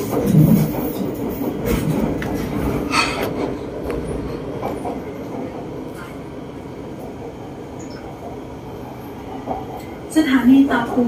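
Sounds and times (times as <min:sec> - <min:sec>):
metro train running rumble: 0:00.0 - 0:11.0.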